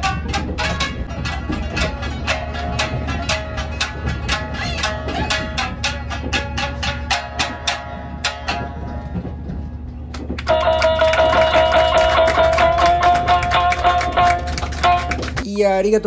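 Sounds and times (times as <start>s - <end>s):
shamisen strings struck: 0.0s - 15.4s.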